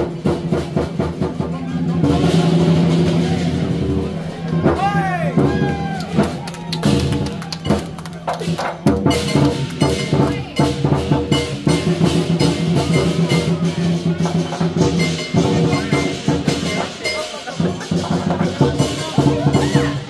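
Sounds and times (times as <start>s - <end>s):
clashing cymbals: 0.0s - 5.6s, 9.0s - 20.0s
big drum beating: 0.0s - 20.0s.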